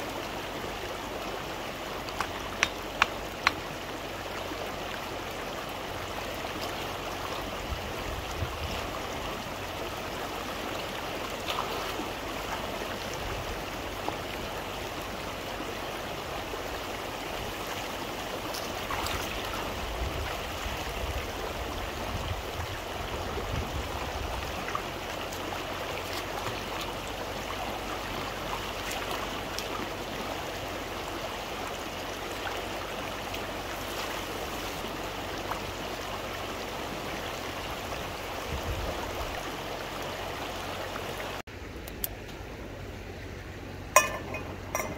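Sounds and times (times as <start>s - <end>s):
river water flowing: 0.0s - 44.9s.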